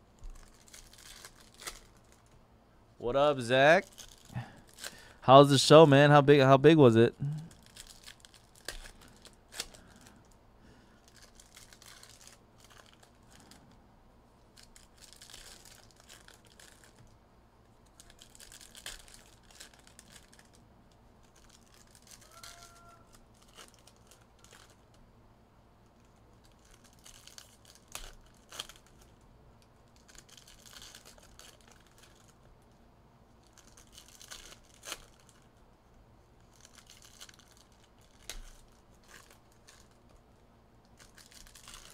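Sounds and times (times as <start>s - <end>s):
plastic wrapping crinkling and tearing: 0.2s - 2.4s, 3.5s - 5.2s, 7.2s - 10.4s, 11.0s - 13.8s, 14.4s - 17.2s, 17.8s - 25.0s, 26.0s - 35.6s, 36.4s - 41.9s.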